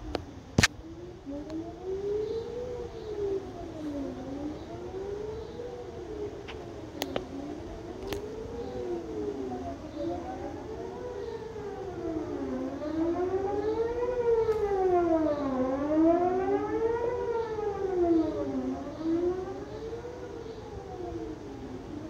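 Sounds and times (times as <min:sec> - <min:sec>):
distant warning sirens wailing: 0:00.0 - 0:22.0.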